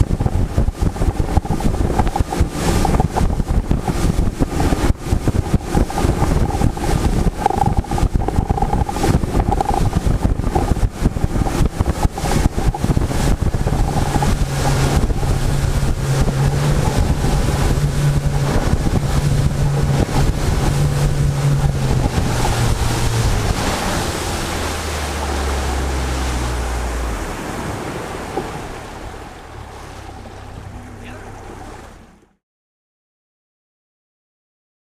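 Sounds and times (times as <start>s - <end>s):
wind buffeting microphone: 0.0s - 32.3s
boat motor drone: 0.0s - 32.4s
water slapping hull: 0.0s - 32.4s.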